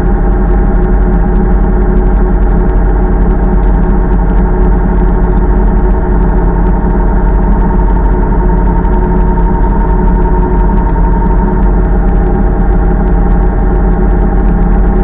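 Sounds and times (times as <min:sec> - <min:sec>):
tractor engine running steadily: 0:00.0 - 0:15.0.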